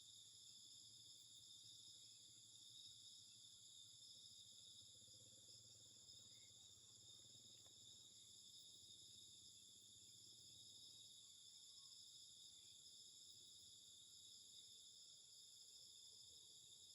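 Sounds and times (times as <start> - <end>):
crickets chirring: 0.1 - 16.9.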